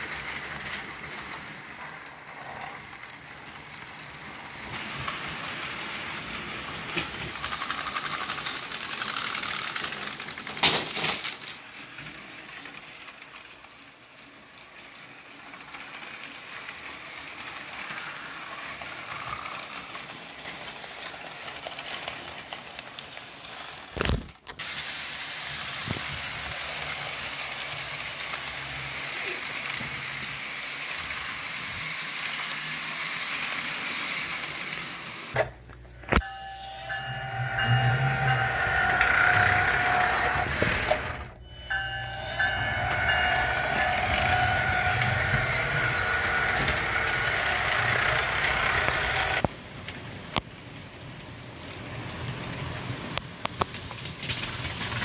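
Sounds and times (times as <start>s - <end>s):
model train wheels rolling on track: 0.0s - 55.0s.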